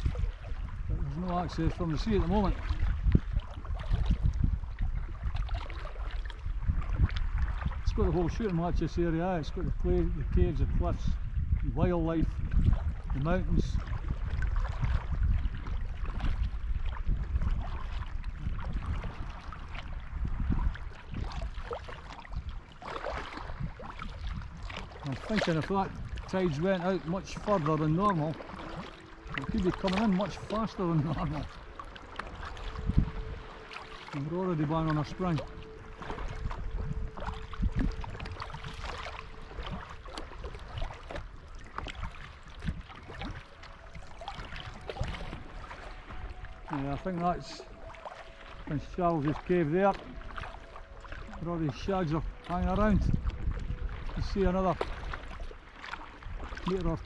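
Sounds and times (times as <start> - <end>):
kayak paddle water splashing: 0.0 - 57.0
wind rumble on microphone: 0.0 - 57.0.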